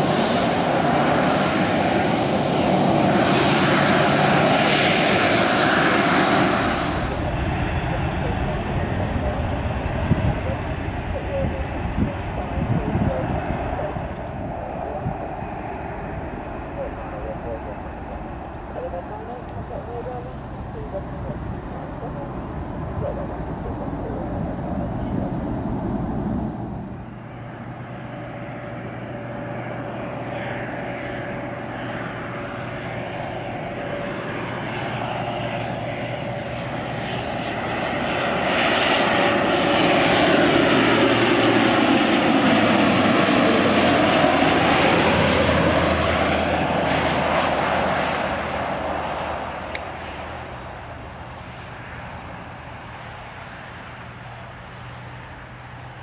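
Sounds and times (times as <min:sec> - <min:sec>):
airliner engines passing: 0:00.0 - 0:56.0.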